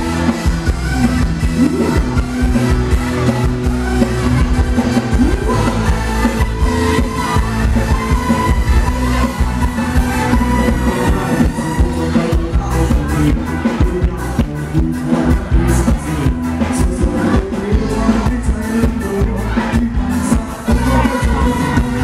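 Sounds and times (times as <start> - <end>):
live band playing dance music: 0.0 - 22.0.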